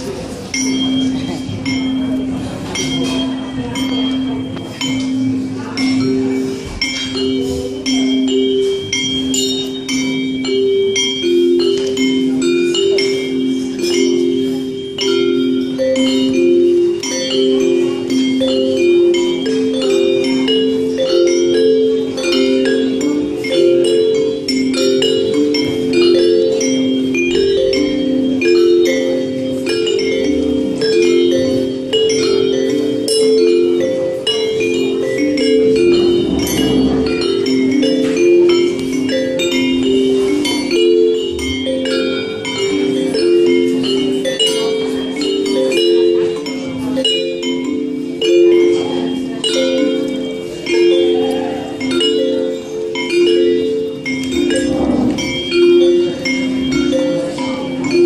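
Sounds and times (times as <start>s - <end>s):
bell-like mallet percussion music: 0.0s - 58.0s.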